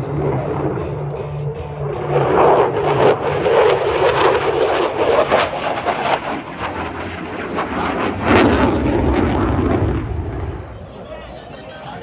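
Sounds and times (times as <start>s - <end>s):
aircraft engine flying past: 0.0s - 12.0s.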